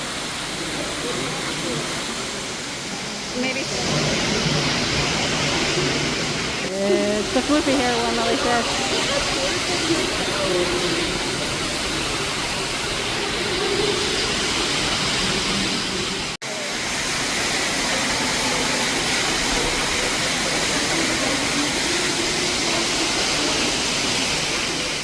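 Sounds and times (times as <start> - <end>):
falling water rushing: 0.0 - 25.0.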